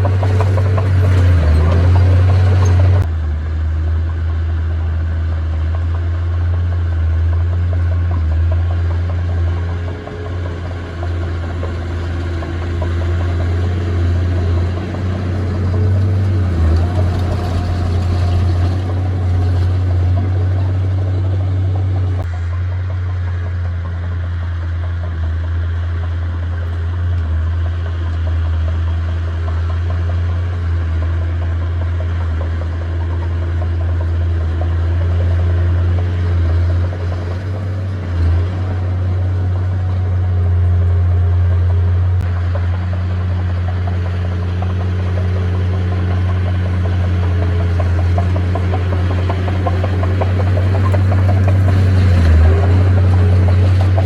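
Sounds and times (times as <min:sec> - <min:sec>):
heavy diesel machinery humming: 0:00.0 - 0:54.0.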